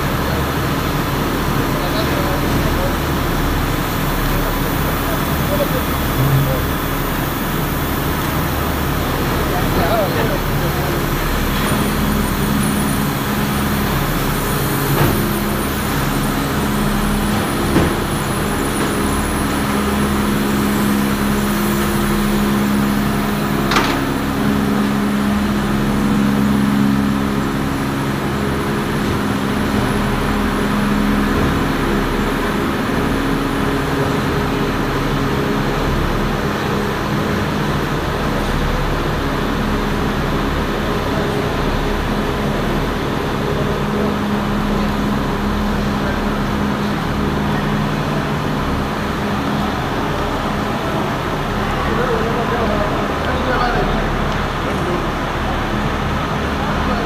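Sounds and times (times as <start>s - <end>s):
factory machinery drone: 0.0s - 57.0s.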